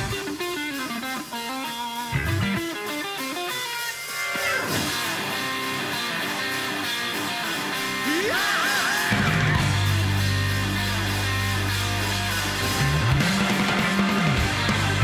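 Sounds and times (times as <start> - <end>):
electric guitar: 0.0 - 15.0
hard rock band playing: 0.0 - 15.0.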